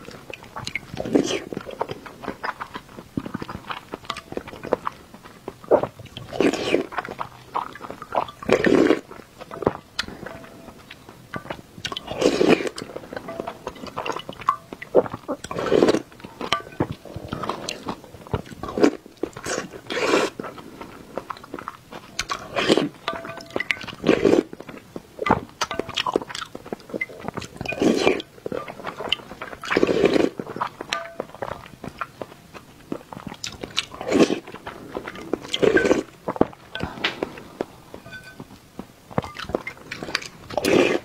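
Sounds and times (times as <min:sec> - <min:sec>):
wet chewing and mouth noises: 0:00.0 - 0:41.0.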